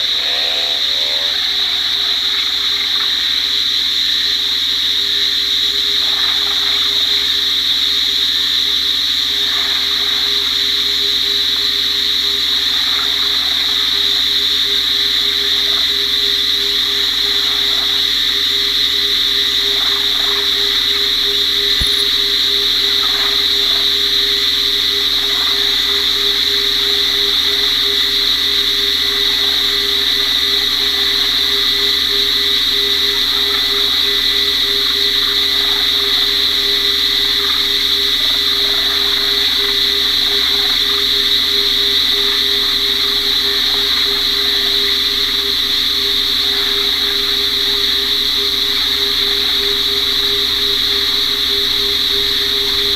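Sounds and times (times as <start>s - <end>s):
lower frog calls: 9.2s - 52.9s
fast pulsing low frog note: 9.6s - 52.9s.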